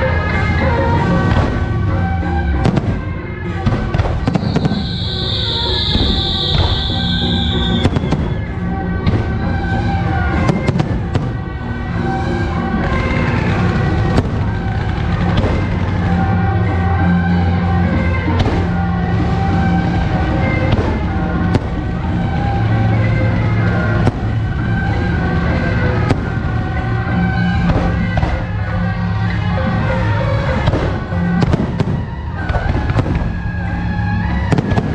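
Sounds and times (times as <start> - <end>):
loud music with bass: 0.0 - 34.9
firecrackers cracking and banging: 1.0 - 16.9, 18.3 - 28.6, 30.5 - 33.5, 34.5 - 34.9.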